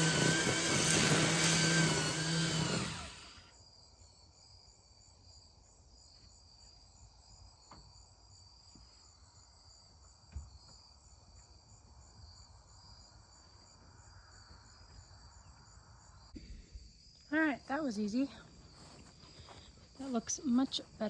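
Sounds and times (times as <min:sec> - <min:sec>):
crickets trilling: 0:00.1 - 0:21.0.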